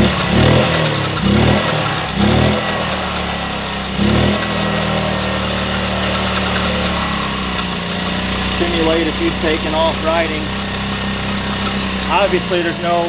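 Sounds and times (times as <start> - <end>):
moped engine revving and idling: 0.0 - 13.0.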